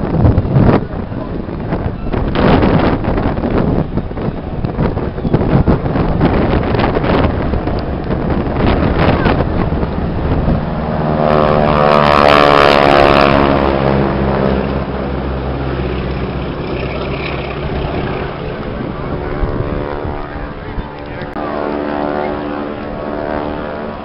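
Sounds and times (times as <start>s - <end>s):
biplane engine drone: 0.0s - 24.0s
wind buffeting microphone: 0.0s - 24.0s.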